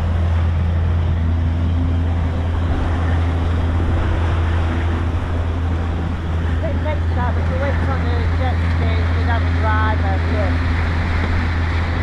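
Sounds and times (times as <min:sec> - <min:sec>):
motorboat engine droning: 0:00.0 - 0:12.0
rushing water: 0:00.0 - 0:12.0
wind: 0:00.0 - 0:12.0.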